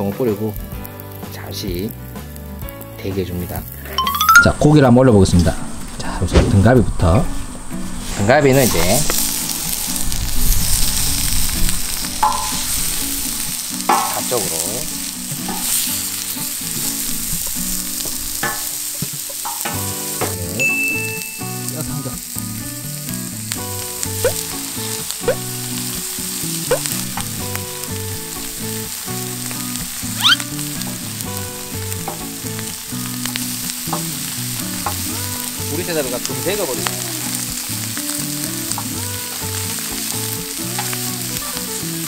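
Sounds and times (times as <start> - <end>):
crackles of frying meat: 0.0 - 4.0, 4.6 - 42.0
meat sizzling on a hot griddle: 0.0 - 4.0, 7.0 - 42.0
background music: 0.0 - 42.0.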